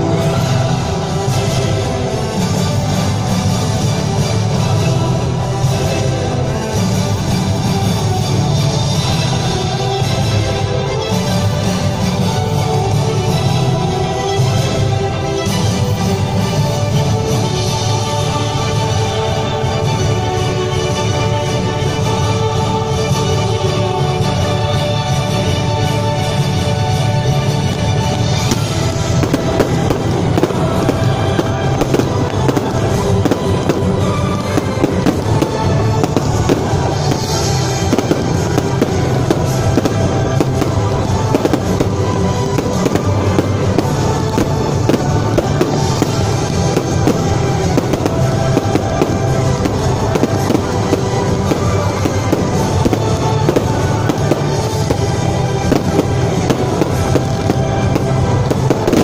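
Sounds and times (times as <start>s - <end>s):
firework bangs and crackling: 0.0s - 59.0s
music playing: 0.0s - 59.0s.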